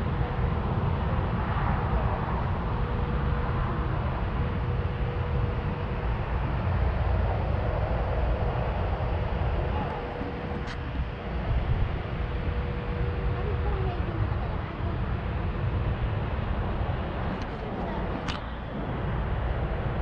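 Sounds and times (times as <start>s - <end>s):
faint constant hum: 0.0s - 20.0s
vehicle rumble: 0.0s - 20.0s.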